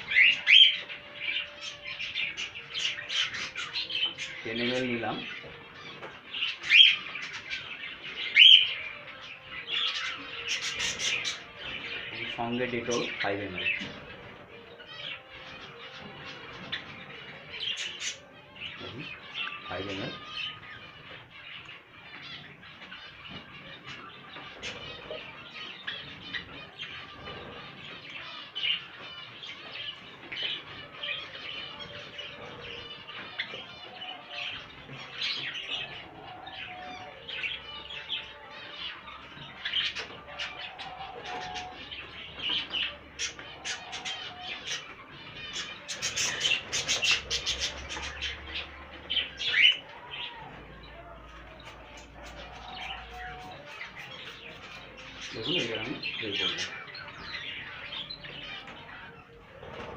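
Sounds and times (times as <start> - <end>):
caged birds chirping: 0.0 - 59.9.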